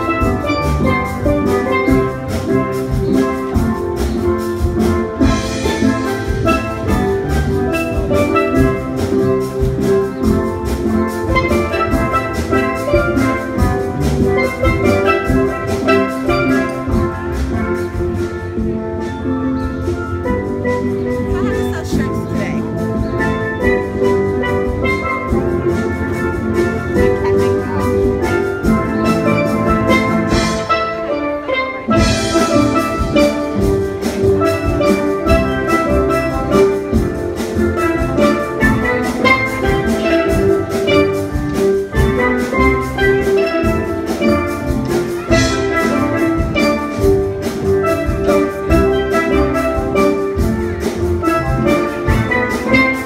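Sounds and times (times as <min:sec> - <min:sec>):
steel band playing pop song: 0:00.0 - 0:53.0.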